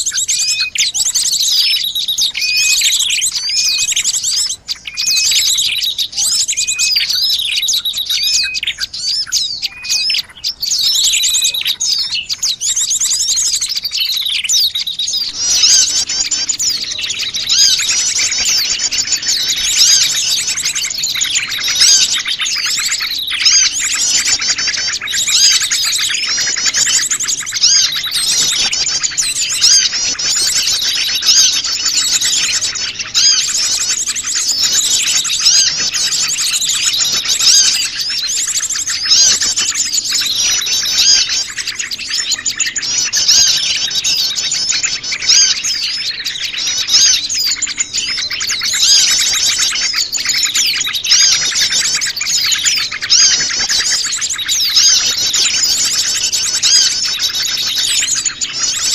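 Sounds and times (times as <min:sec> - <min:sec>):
small birds chirping and trilling: 0:00.0 - 0:58.9.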